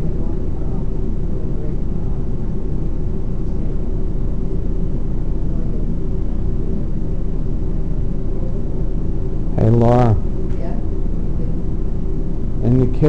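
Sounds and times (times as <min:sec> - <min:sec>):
faint hum: 0:00.0 - 0:13.0
steady low rumble: 0:00.0 - 0:13.0.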